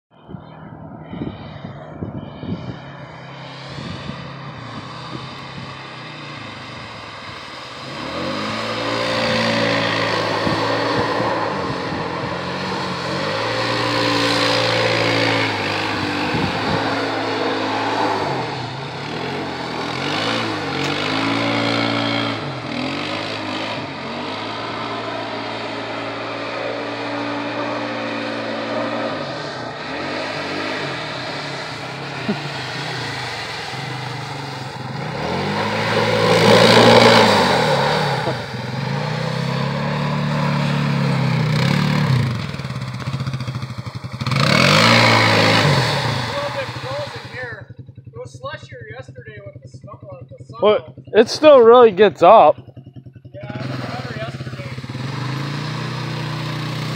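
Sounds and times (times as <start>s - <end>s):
atv engine revving: 0.6s - 56.9s.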